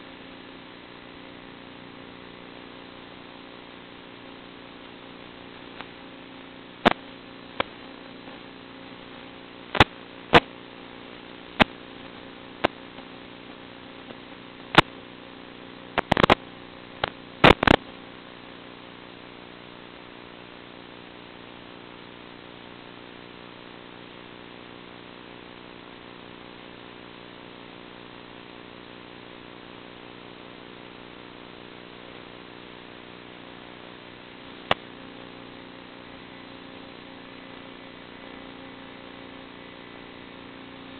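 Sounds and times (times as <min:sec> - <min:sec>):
static pops: 0:00.0 - 0:19.2, 0:26.6 - 0:40.9
electrical hum and hiss: 0:00.0 - 0:40.9.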